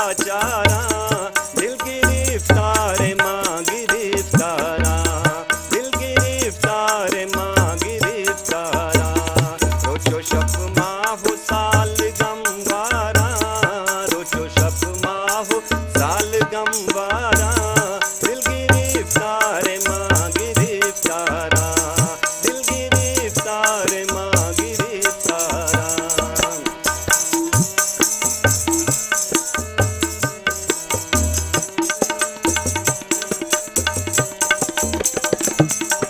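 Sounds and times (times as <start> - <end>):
person singing: 0.0 - 33.4
harmonium melody: 0.0 - 36.0
tabla drumming: 0.0 - 36.0.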